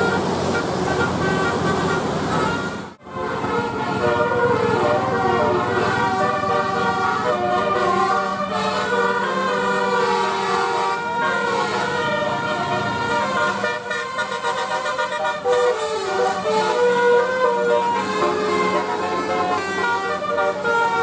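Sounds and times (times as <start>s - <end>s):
multi-tone air horns playing melody: 0.0s - 21.0s.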